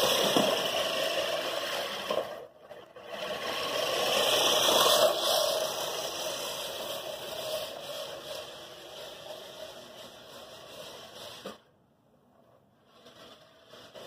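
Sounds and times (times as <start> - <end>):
reel lawn mower whirring: 0.0 - 11.6, 12.8 - 14.0.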